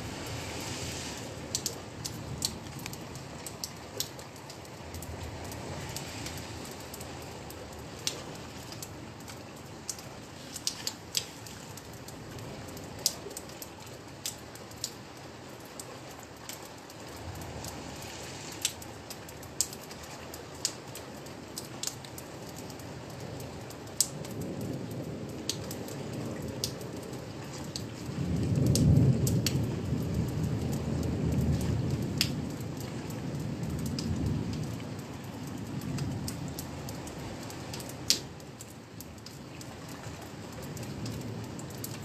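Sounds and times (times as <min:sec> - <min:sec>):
sharp raindrops striking: 0:00.0 - 0:42.0
steady rain: 0:00.0 - 0:42.0.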